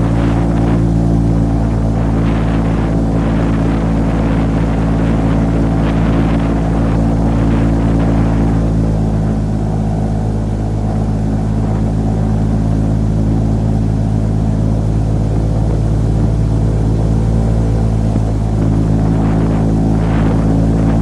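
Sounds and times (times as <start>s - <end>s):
airboat engine drone: 0.0s - 21.0s.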